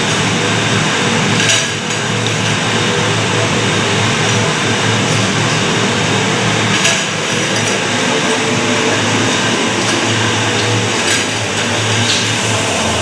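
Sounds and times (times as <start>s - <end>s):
machine low hum: 0.0s - 13.0s.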